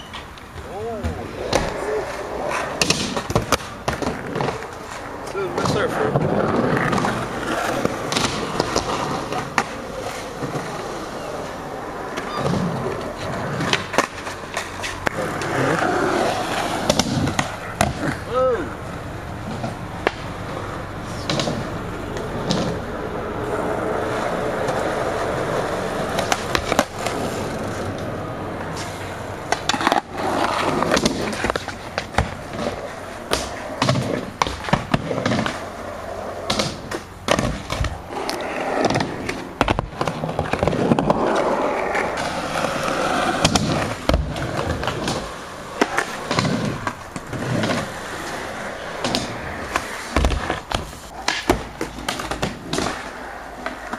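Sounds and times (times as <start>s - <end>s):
skateboards clacking and landing: 0.0s - 53.9s
skateboards rolling on concrete: 0.0s - 53.9s.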